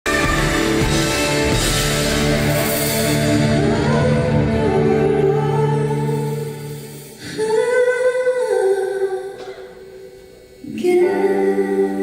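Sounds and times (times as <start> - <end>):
slow live concert music: 0.1 - 12.0.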